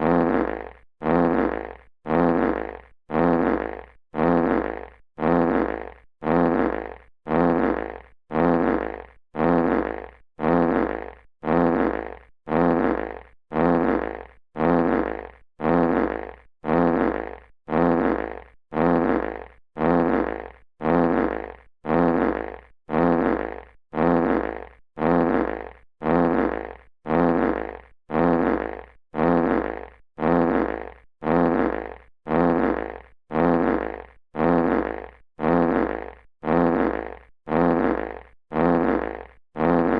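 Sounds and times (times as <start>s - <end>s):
fart sound effect: 0.0s - 39.9s.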